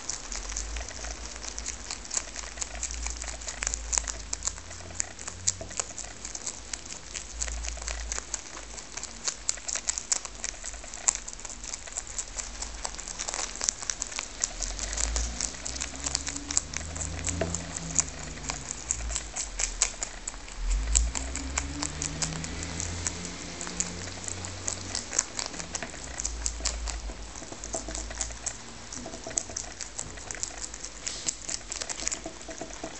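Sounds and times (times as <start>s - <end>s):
rabbits chewing cabbage leaves: 0.0s - 32.9s.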